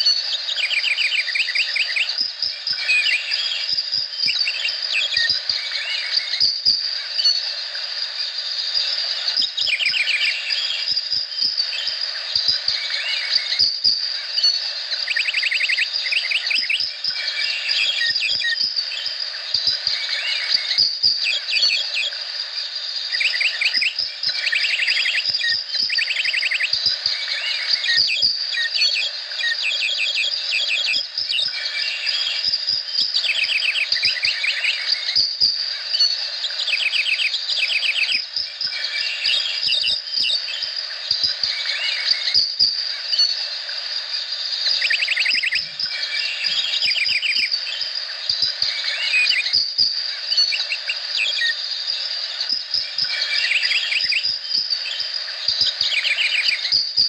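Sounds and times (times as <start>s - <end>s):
high-pitched insect drone: 0.0s - 57.0s
rapid trilling calls: 0.0s - 57.0s.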